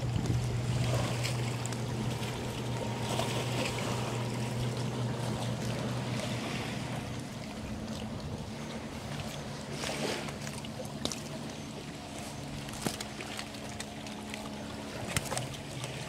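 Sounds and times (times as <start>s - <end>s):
low engine hum: 0.0s - 16.0s
small waves lapping on rocks: 0.0s - 16.0s.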